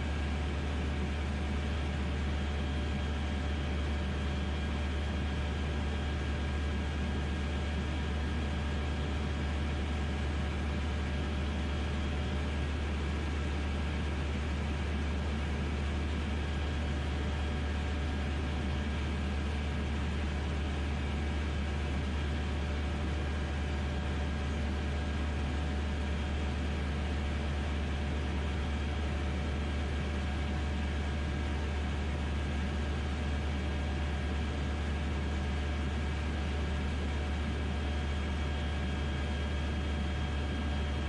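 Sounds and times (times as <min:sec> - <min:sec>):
light aircraft engine droning: 0:00.0 - 0:41.0.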